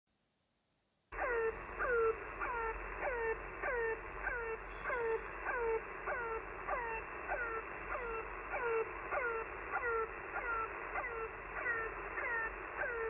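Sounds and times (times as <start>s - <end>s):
radio band hiss: 1.2s - 13.0s.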